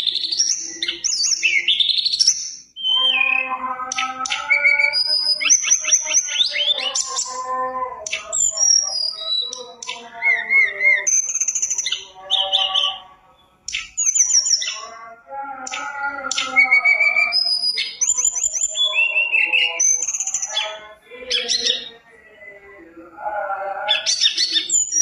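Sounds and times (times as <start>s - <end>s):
songbird singing whistles and trills: 0.0s - 15.0s, 15.6s - 22.7s, 23.9s - 25.0s.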